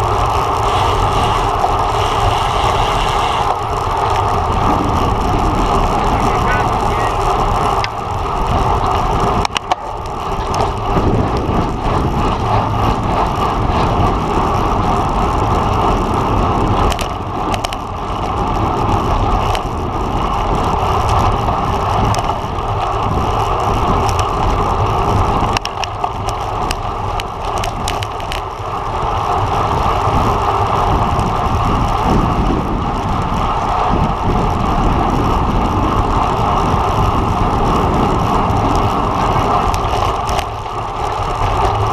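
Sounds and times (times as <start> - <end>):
sharp clicks from bike: 0.0 - 41.9
wind and road noise: 0.0 - 41.9.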